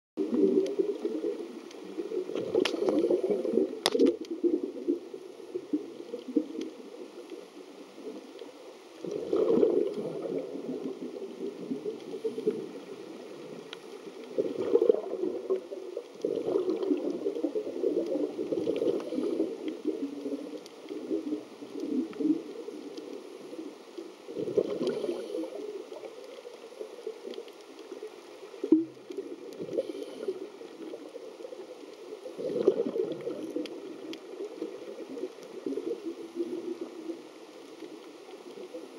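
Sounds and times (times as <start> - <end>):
underwater bubbles gurgling: 0.2 - 38.9.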